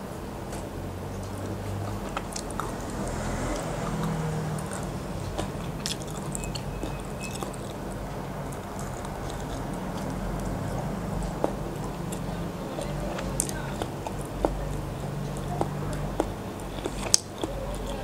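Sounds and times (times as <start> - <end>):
chewing and biting egg: 1.1 - 18.0
mouth clicks: 1.2 - 18.0.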